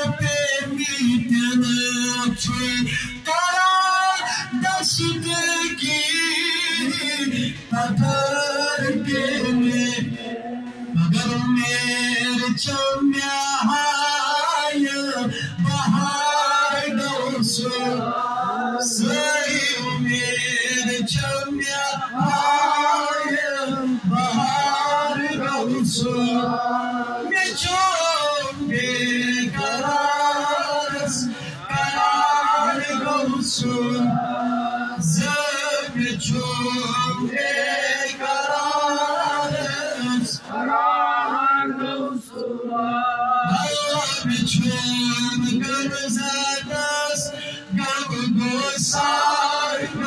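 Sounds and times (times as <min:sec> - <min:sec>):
man singing a chant: 0:00.0 - 0:50.0.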